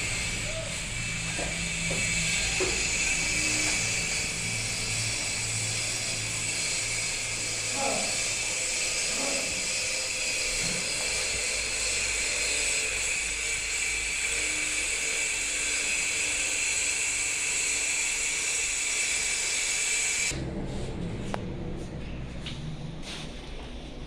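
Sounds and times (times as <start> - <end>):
power tool motor whining: 0.0 - 20.4.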